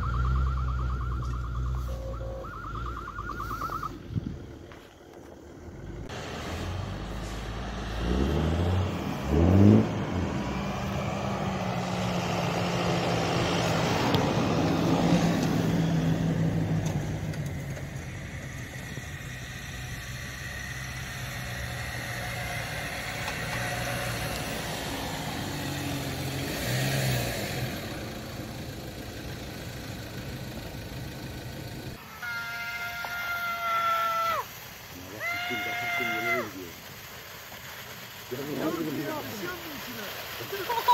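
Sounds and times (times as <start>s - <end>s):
off-road engines revving: 0.0s - 32.6s, 33.4s - 40.9s.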